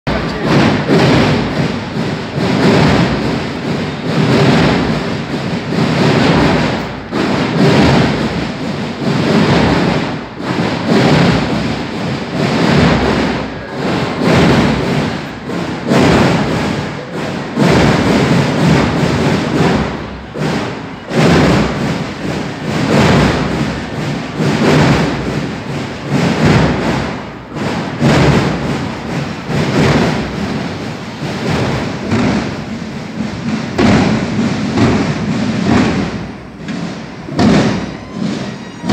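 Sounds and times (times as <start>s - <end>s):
marching drums: 0.0s - 38.9s.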